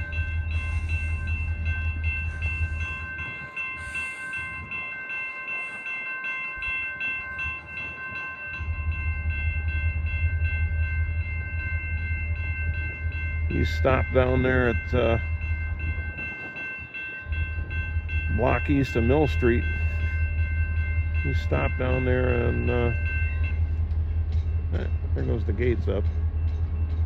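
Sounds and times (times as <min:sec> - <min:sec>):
low rumble of train: 0:00.0 - 0:27.0
railroad crossing bell ringing: 0:00.0 - 0:27.0.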